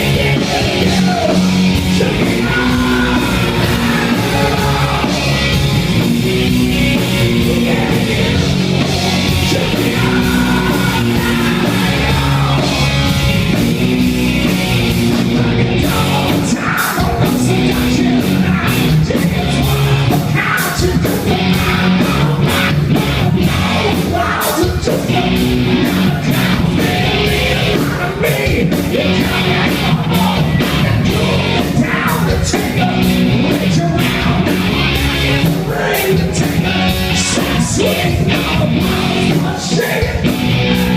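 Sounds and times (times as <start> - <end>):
sung and shouted vocals: 0.0 - 13.2, 15.4 - 40.9
distorted electric guitar: 0.0 - 40.9
drums hitting hard: 0.0 - 40.9
heavy rock band playing: 0.0 - 40.9.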